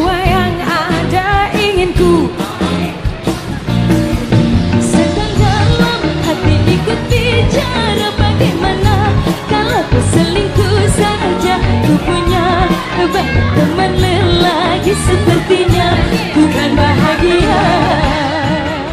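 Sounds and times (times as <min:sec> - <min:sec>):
pop song with singing: 0:00.0 - 0:18.9.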